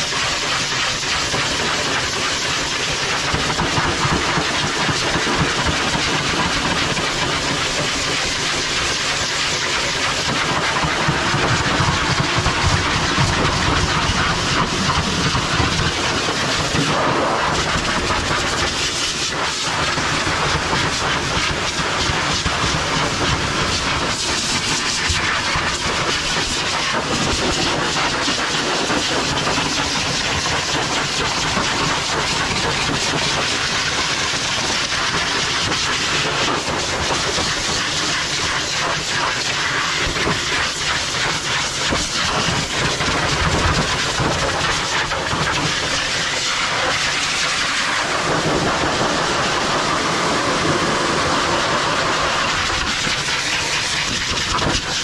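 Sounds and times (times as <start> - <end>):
pet dryer blowing air: 0.0 - 55.0.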